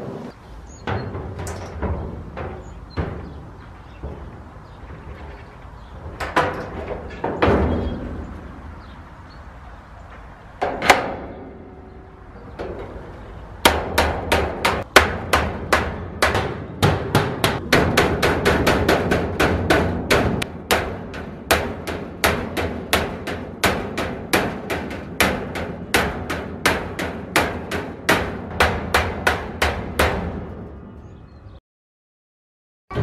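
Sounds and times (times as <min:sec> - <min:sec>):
hammer striking metal hinges: 0:00.7 - 0:08.5, 0:10.1 - 0:30.8.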